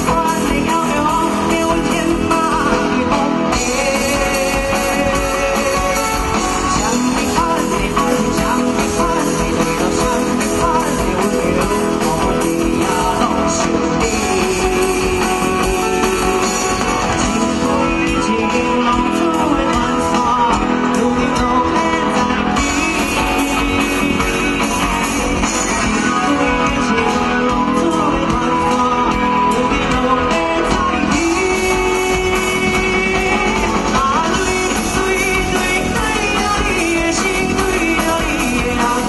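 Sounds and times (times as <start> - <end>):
live band playing: 0.0 - 39.0.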